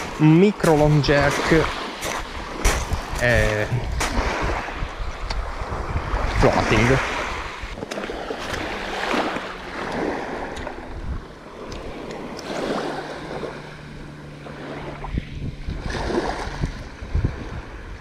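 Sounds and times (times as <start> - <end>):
waves washing against rocks: 0.0 - 17.8
wind on microphone: 0.0 - 18.0.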